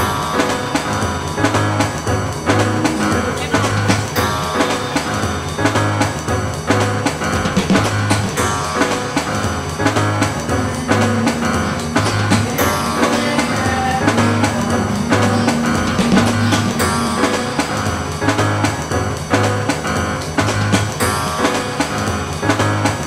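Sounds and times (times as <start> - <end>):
instrumental music with drums and guitar: 0.0 - 23.0.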